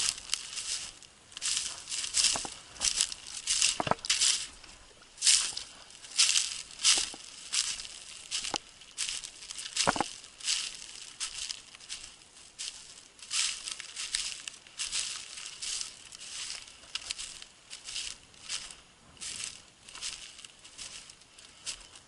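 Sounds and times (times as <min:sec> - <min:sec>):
footsteps through dry grass: 0:00.0 - 0:22.0.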